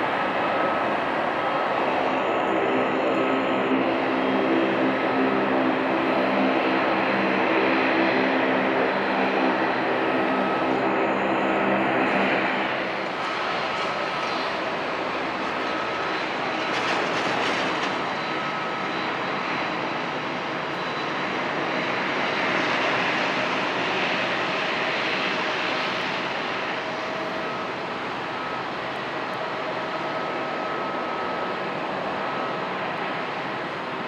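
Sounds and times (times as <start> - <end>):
jet engines at takeoff: 0.0 - 34.0.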